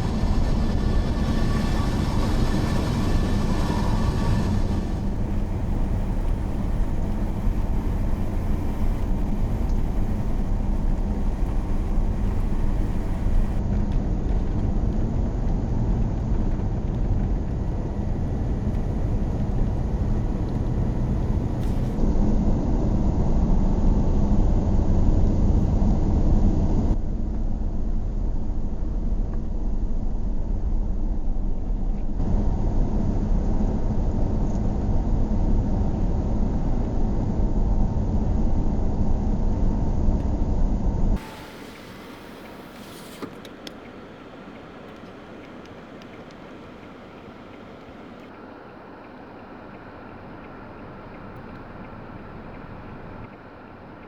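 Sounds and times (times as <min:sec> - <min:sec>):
van engine and road noise: 0:00.0 - 0:27.1, 0:29.8 - 0:54.0.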